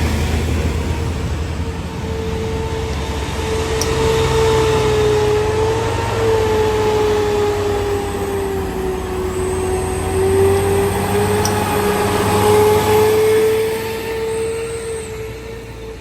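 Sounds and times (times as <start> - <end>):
heavy truck engine under load: 0.0 - 16.0
steady whine: 0.0 - 16.0.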